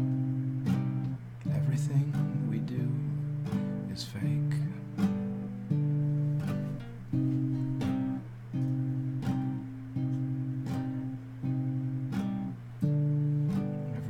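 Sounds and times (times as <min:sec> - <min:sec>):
guitar strumming chords: 0:00.0 - 0:14.0.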